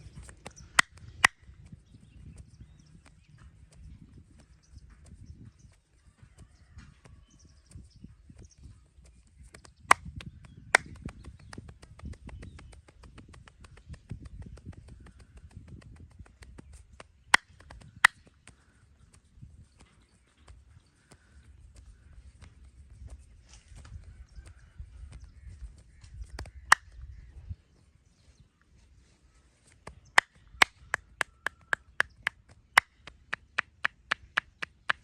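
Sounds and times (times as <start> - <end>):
rubbing and tapping on body: 0.0 - 5.8, 6.5 - 27.2, 29.6 - 35.0.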